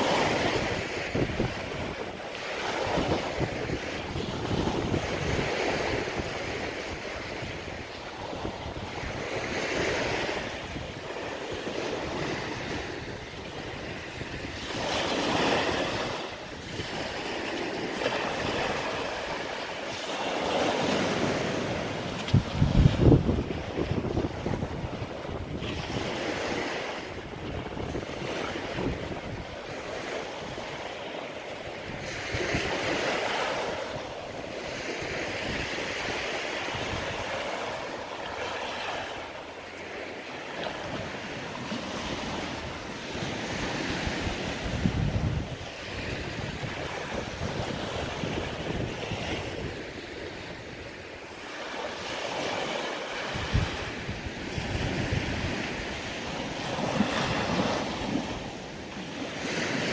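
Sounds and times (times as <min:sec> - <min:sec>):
surf washing onto sand: 0:00.0 - 0:30.9, 0:31.8 - 0:59.9
wind buffeting microphone: 0:00.0 - 0:31.0, 0:31.7 - 0:38.0, 0:40.6 - 0:51.1, 0:52.5 - 0:59.9.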